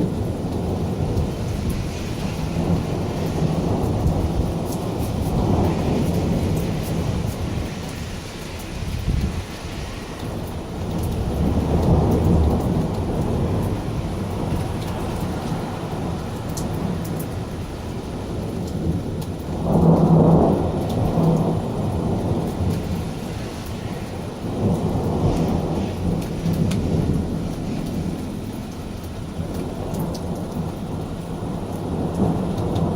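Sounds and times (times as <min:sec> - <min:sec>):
rain hissing: 0:00.0 - 0:32.9
thunder rumbling: 0:00.0 - 0:32.9.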